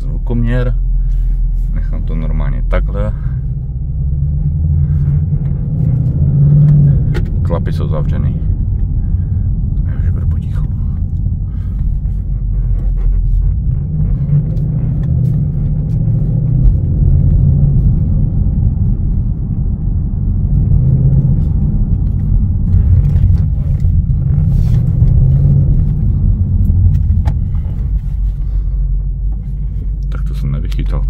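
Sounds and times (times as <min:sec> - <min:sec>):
car engine deep rumble: 0:00.0 - 0:31.0.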